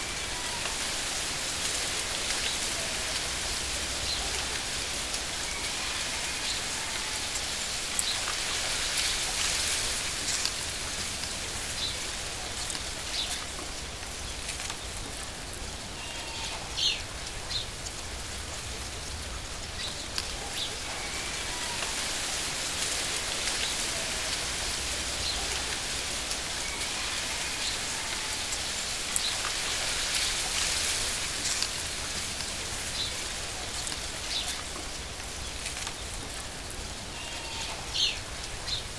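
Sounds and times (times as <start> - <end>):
hiss of falling water: 0.0 - 38.9.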